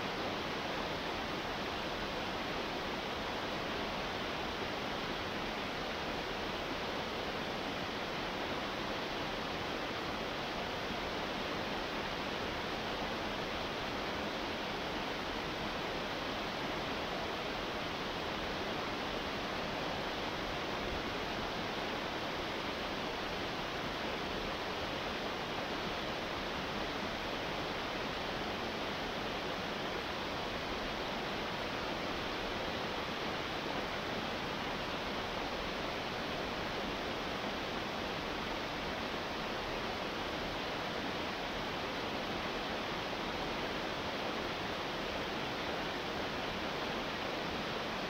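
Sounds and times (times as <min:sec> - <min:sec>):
waterfall rushing over rocks: 0:00.0 - 0:48.0.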